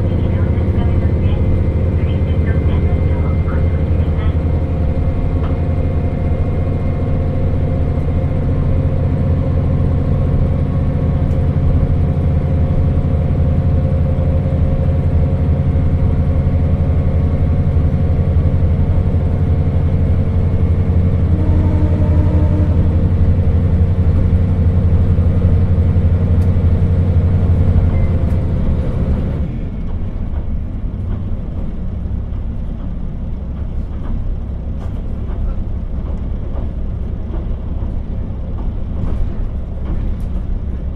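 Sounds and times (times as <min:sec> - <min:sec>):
diesel engine droning: 0:00.0 - 0:40.9
wheels rumbling on rails: 0:00.0 - 0:40.9.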